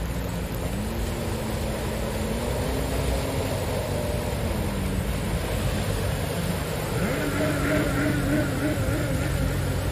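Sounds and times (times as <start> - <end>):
car engine: 0.0 - 9.9
tyres splashing through water: 0.0 - 9.9.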